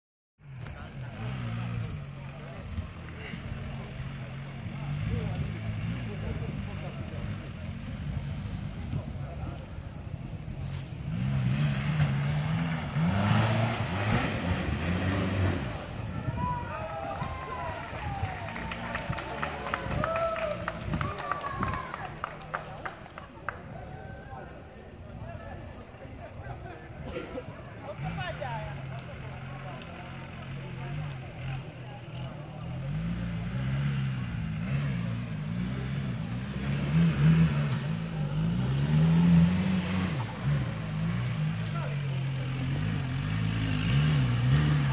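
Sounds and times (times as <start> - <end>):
off-road vehicle engine revving: 0.4 - 23.8, 25.1 - 44.9.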